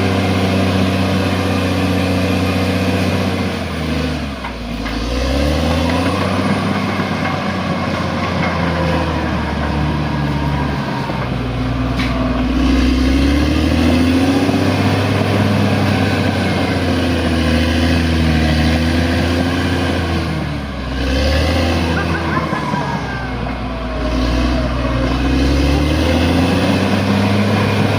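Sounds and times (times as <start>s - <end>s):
bulldozer diesel engine: 0.0s - 27.9s.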